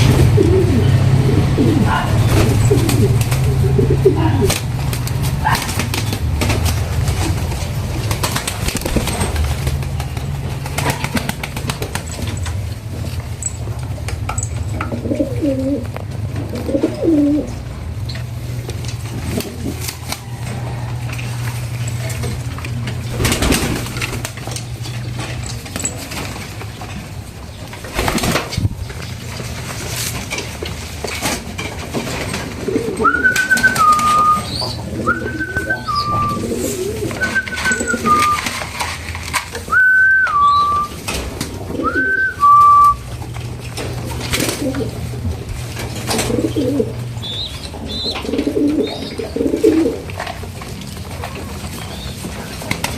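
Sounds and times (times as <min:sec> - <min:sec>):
pigeons cooing: 0:00.0 - 0:52.9.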